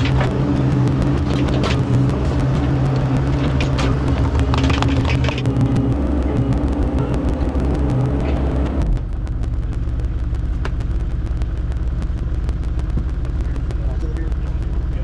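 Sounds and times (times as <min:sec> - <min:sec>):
mini excavator engine running: 0:00.0 - 0:15.0.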